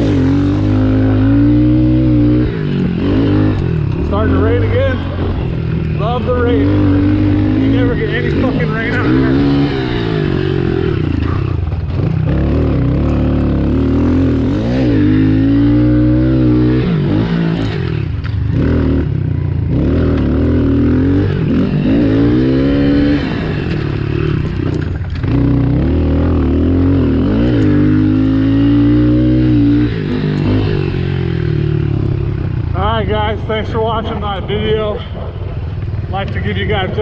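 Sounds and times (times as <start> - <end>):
motocross bike engine revving: 0.0 - 37.0.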